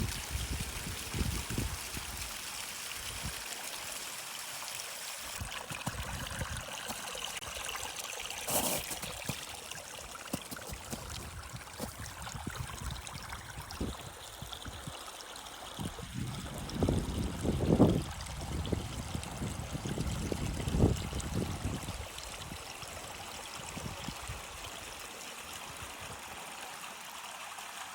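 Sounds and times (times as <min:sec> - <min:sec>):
stream water running: 0:00.0 - 0:27.9.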